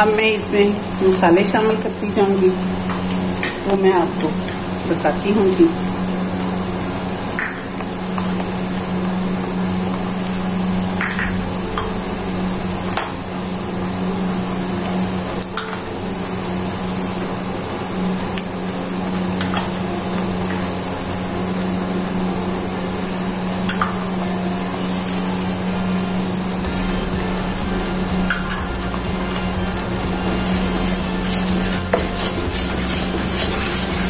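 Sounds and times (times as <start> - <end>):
onions sizzling in hot oil: 0.0 - 34.0
steady low hum: 0.0 - 34.0.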